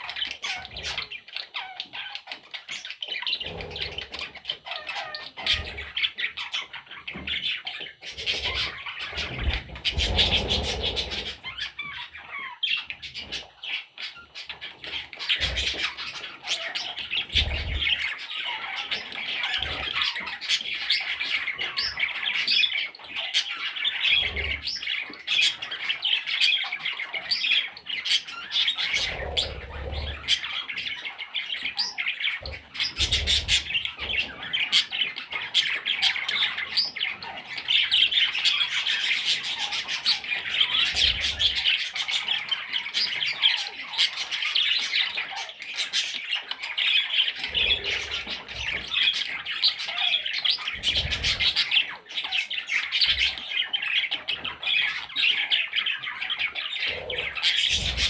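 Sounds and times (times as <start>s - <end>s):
budgerigar chicks squawking: 0.0s - 58.0s.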